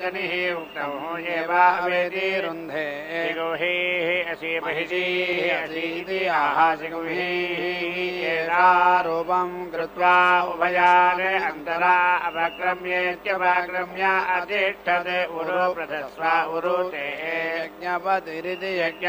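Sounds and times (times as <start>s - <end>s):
melodic mantra chanting: 0.0s - 19.0s.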